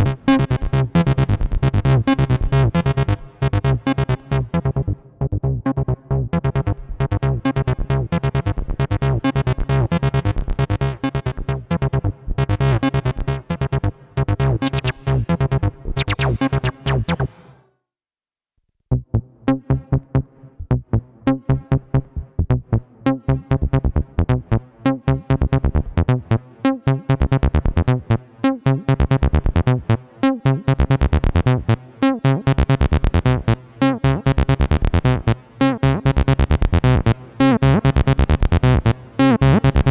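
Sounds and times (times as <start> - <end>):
synthesizer acid bassline: 0.0 - 17.6, 20.9 - 39.9.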